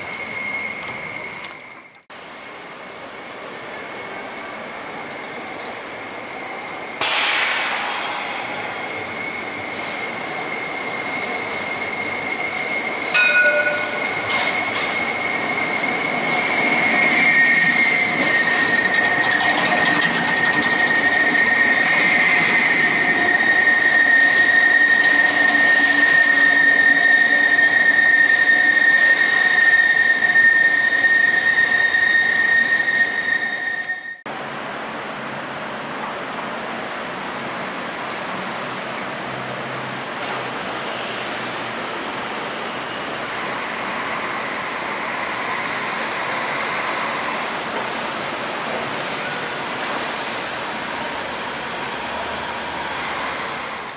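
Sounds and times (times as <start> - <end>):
tram wheels squealing: 0.0 - 34.3, 40.2 - 53.9
tram running rumble: 0.0 - 53.9.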